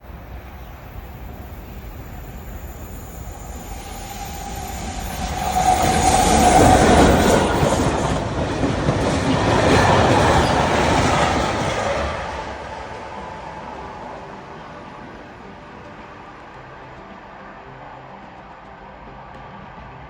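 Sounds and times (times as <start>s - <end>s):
train rumble and wheel clatter: 0.0s - 20.0s.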